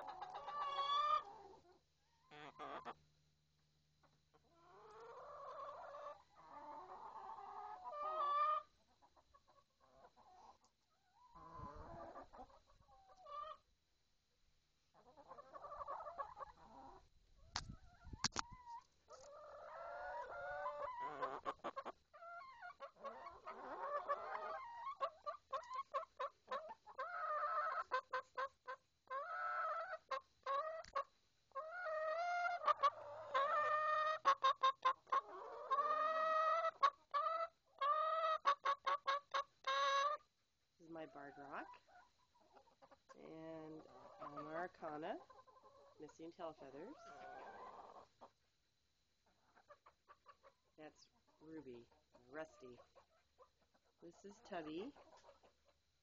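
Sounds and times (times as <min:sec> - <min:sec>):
hens clucking: 0:00.0 - 0:03.1, 0:04.0 - 0:13.7, 0:14.9 - 0:55.9.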